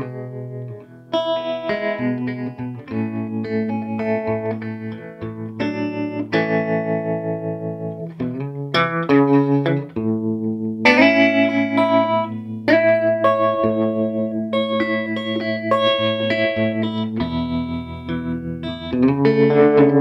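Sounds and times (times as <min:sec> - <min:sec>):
electric guitar with tremolo: 0:00.0 - 0:20.0.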